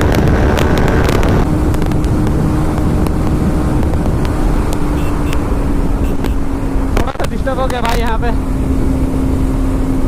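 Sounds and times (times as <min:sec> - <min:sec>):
motorcycle engine drone: 0:00.0 - 0:10.0
wind rush on microphone: 0:00.0 - 0:10.0.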